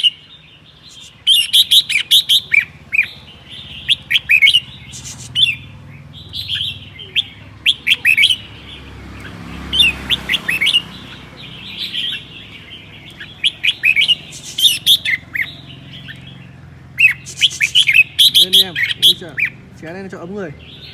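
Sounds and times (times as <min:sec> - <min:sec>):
bird singing chirps and whistles: 0:00.0 - 0:19.6.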